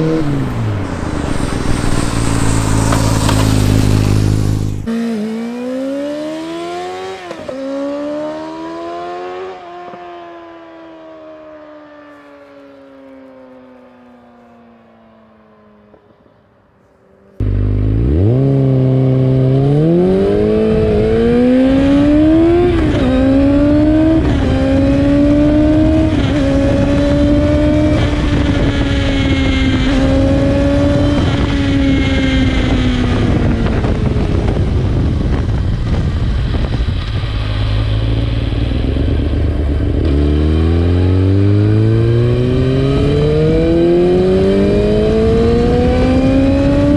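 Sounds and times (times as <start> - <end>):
motorcycle engine revving: 0.0 - 10.5, 17.3 - 46.9.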